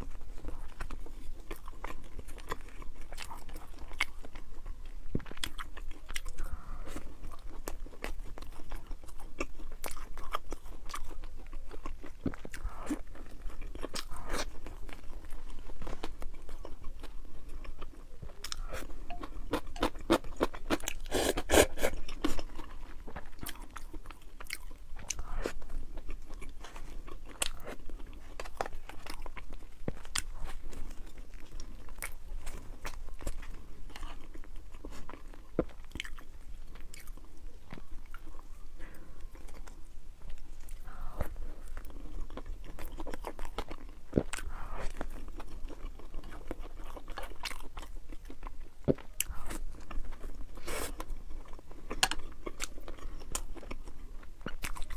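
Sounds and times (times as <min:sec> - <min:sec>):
person crunching and chewing: 0:00.0 - 0:54.9.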